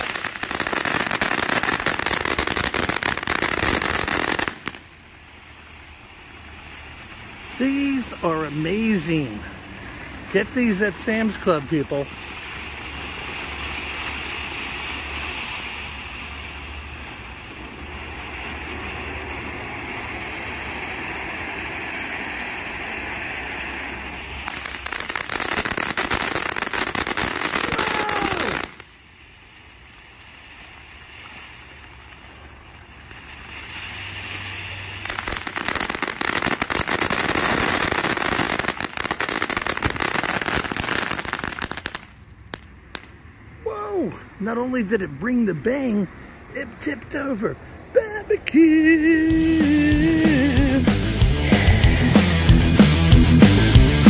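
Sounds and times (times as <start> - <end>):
dense firework crackle: 0.0 - 43.9, 48.1 - 54.0
firework fountain hissing: 0.0 - 45.6, 48.0 - 54.0.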